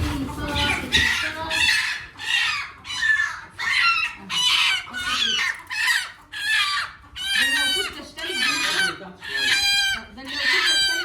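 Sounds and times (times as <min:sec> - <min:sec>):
hen squawking: 0:00.0 - 0:11.0.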